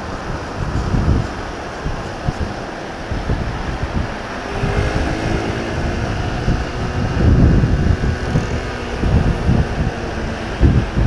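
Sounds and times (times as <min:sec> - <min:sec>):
faint motorcycle engine: 0:00.0 - 0:11.0
wind buffeting microphone: 0:00.0 - 0:11.0.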